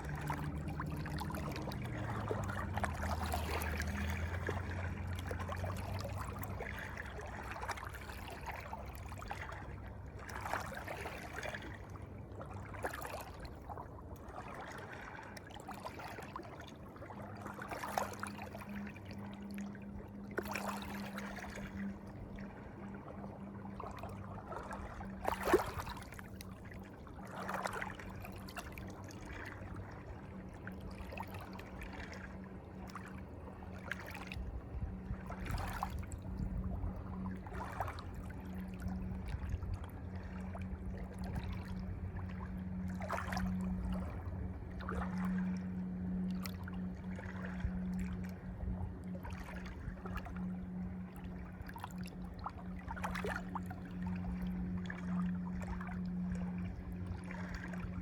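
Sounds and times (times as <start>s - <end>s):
low hum: 0.0s - 58.0s
water splashing: 0.0s - 58.0s
water trickling and lapping: 0.0s - 58.0s.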